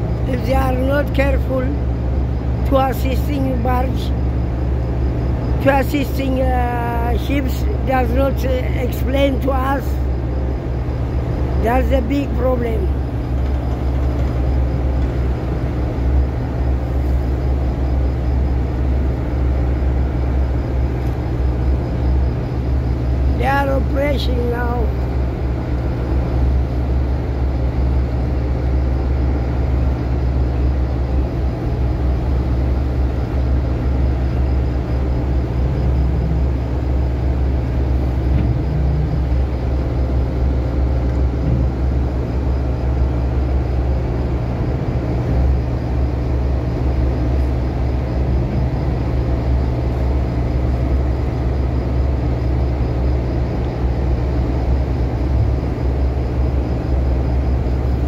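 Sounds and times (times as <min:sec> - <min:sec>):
diesel engine low drone: 0:00.0 - 0:58.0.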